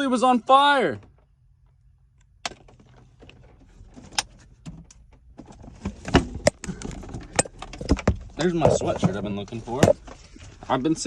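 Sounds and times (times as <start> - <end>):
items rummaged with clicks and rustling: 0.9 - 11.0.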